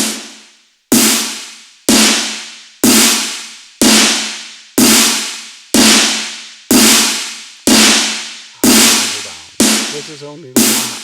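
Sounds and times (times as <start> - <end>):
electronic snare drum hits: 0.0 - 11.0.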